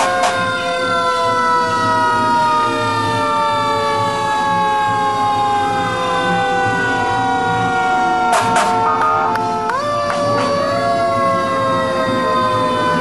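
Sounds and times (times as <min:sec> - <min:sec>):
fire engine siren wailing: 0:00.0 - 0:13.0
sharp siren blasts: 0:00.0 - 0:13.0.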